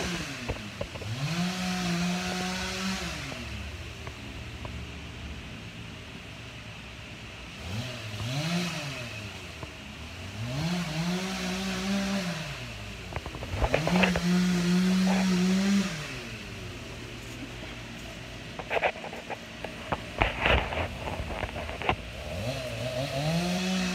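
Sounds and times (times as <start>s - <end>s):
chainsaw revving: 0.0s - 4.6s, 7.5s - 23.9s.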